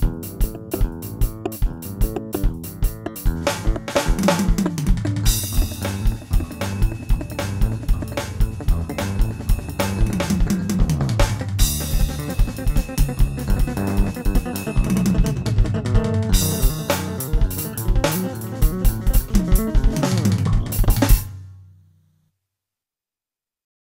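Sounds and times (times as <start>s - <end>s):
electric bass line: 0.0s - 21.4s
electronic drum kit: 0.0s - 21.4s.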